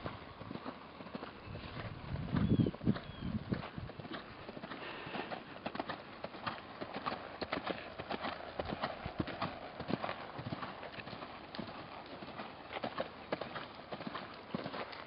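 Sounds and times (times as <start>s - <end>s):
horse hoofbeats: 0.0s - 15.0s.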